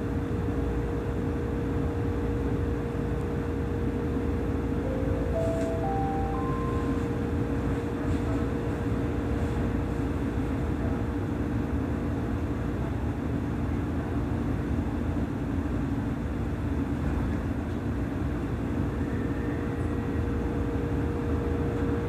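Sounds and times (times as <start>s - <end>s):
low train hum: 0.0s - 22.0s
wheels rumbling on rail: 0.0s - 22.0s.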